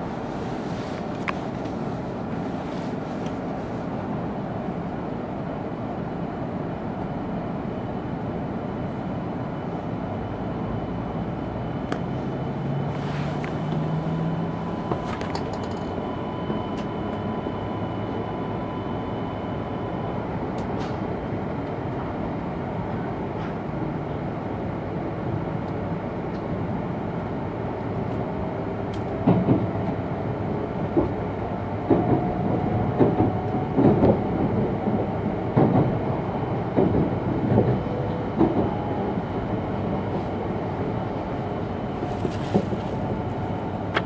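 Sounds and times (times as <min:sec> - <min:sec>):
train running noise: 0:00.0 - 0:44.0.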